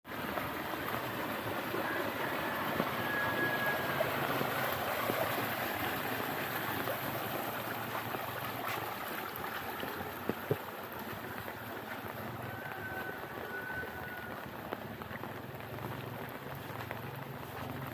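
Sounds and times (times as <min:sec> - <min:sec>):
sharp water drips: 0:00.0 - 0:17.9
steady rain falling: 0:00.0 - 0:17.9.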